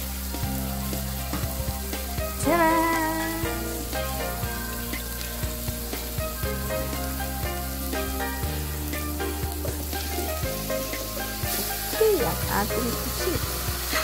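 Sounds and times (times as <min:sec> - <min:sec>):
soft background music: 0:00.0 - 0:14.0
vegetables sizzling in a pot: 0:00.0 - 0:14.0.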